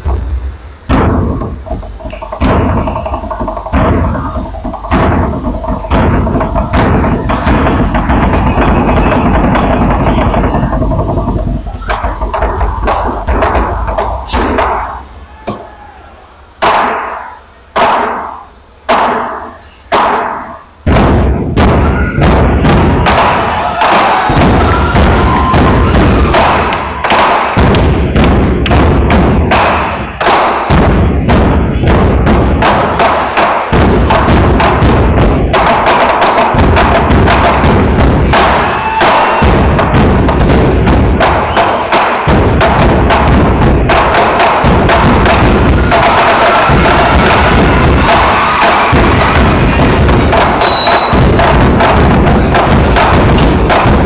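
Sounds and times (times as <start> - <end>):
barrel drums beaten with sticks: 0.0 - 15.7, 16.6 - 54.0.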